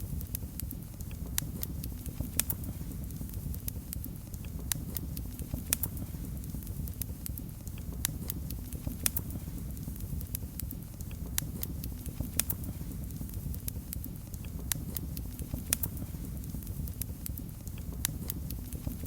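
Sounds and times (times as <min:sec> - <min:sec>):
fire crackling pops: 0:00.0 - 0:19.0
low rumble of flames: 0:00.0 - 0:19.0.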